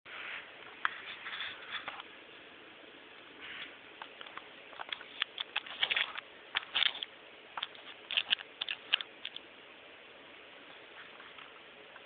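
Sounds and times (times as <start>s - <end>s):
soft hissy sounds: 0.1s - 12.0s.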